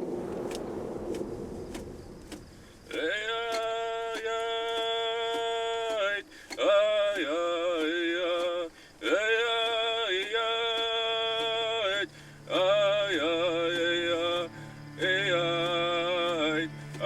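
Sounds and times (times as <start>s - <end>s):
low steady drone: 0.0s - 6.2s, 6.8s - 17.0s
man singing chant-like phrases: 2.9s - 17.0s.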